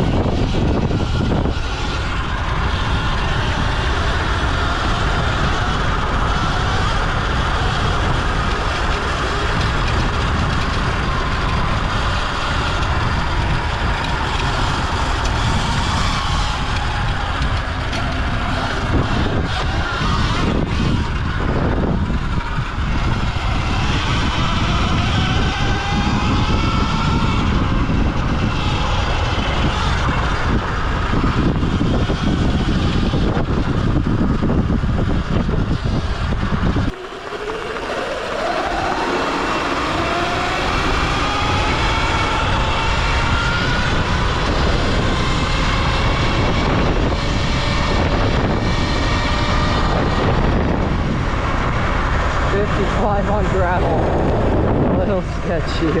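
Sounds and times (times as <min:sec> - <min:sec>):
electric motor whine: 0:00.0 - 0:56.0
wind rush on microphone: 0:00.0 - 0:56.0.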